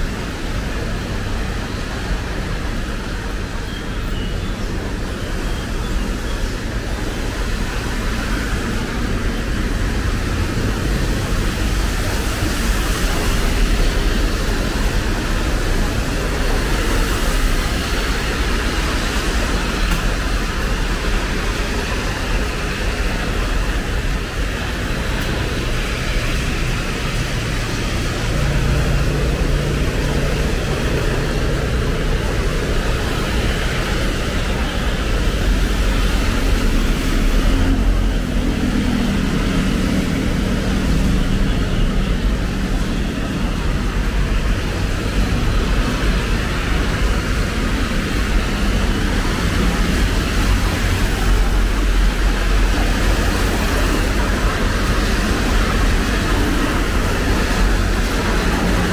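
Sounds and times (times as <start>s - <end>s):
low rumble of engines: 0.0s - 58.9s
tyres hissing on wet asphalt: 0.0s - 58.9s.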